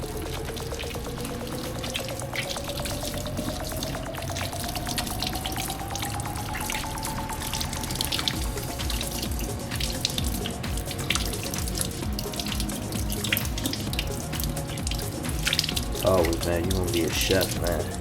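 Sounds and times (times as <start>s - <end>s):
thin rising tone: 0.0s - 18.0s
water splashes: 0.0s - 18.0s.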